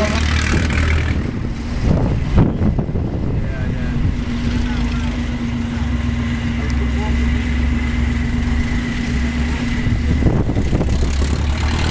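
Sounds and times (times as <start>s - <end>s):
car engine rumbling past: 0.0s - 11.9s.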